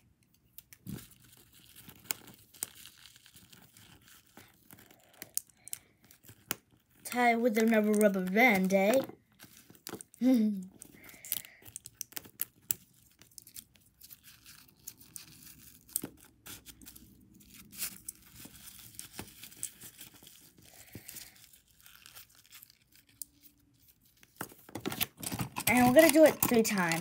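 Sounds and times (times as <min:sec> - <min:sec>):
rubber band being wrapped: 0:00.4 - 0:27.0
tissue paper and plastic rustling: 0:00.8 - 0:27.0.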